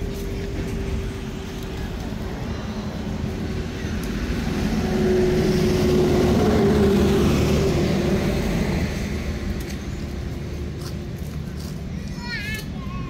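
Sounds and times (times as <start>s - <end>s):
motor vehicle passing: 0.0s - 12.1s.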